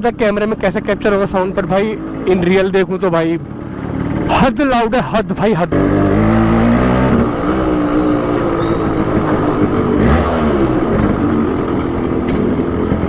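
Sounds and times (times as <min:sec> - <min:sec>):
two-stroke motorcycle engine revving: 0:00.1 - 0:13.0.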